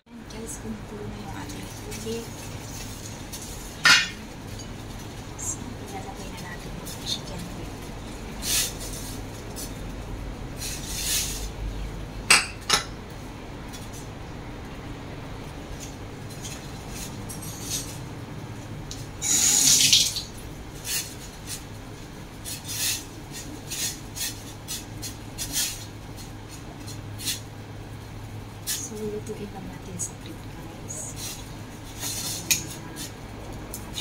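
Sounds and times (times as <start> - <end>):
water boiling in a pot: 0.1 - 34.0.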